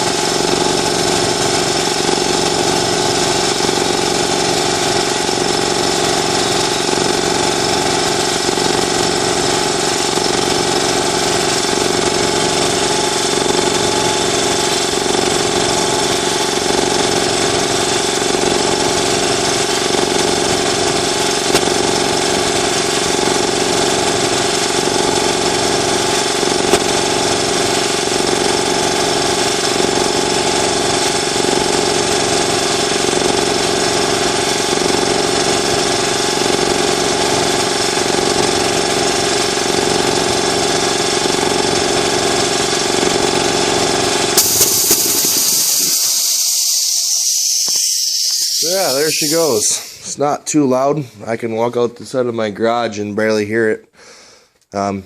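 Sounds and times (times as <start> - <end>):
air compressor running: 0.0 - 50.2.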